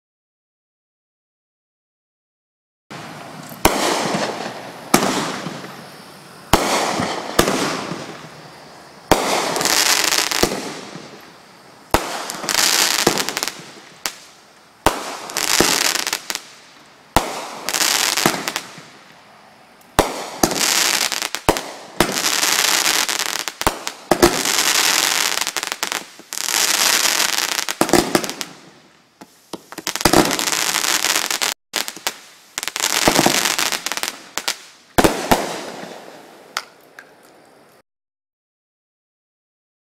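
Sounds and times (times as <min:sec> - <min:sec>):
firework bangs: 0:02.9 - 0:19.1, 0:19.9 - 0:36.7
firework hissing: 0:03.0 - 0:36.8.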